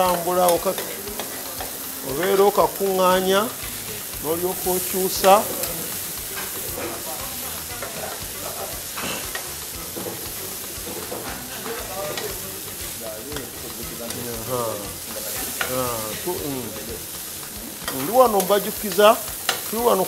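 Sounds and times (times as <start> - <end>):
chicken sizzling on a griddle: 0.0 - 20.0
spatula scraping griddle: 0.0 - 20.0.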